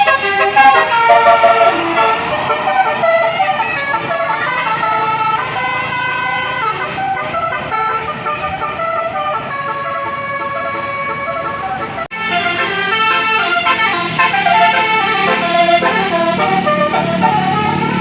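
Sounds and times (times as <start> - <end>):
bus musical horn melody: 0.0 - 18.0.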